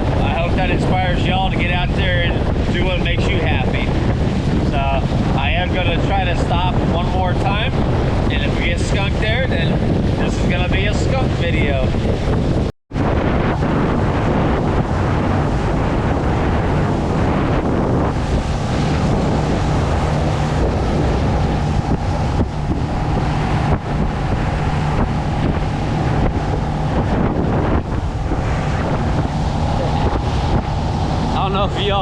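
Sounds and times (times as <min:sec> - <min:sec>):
boat motor drone: 0:00.0 - 0:32.0
rushing water: 0:00.0 - 0:32.0
wind buffeting microphone: 0:00.0 - 0:32.0.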